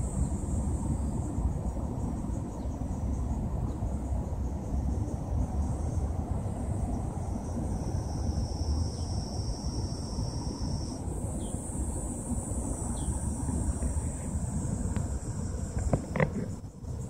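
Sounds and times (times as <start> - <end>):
insects trilling: 0.0 - 17.0
steady low rumble: 0.0 - 17.0.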